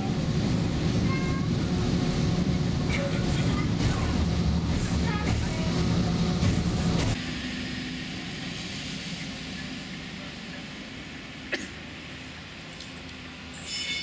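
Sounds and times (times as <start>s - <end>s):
diesel railcar running: 0.0s - 14.0s.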